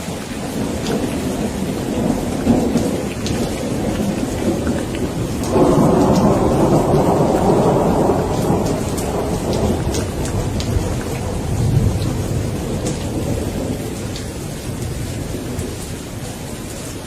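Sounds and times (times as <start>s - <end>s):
rolling thunder: 0.0s - 16.6s
steady rain hiss: 0.0s - 17.0s.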